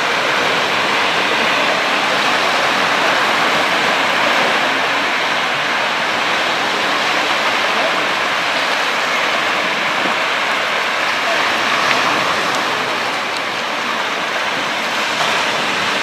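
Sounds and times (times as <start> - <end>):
surf breaking on rocky shore: 0.0 - 16.0.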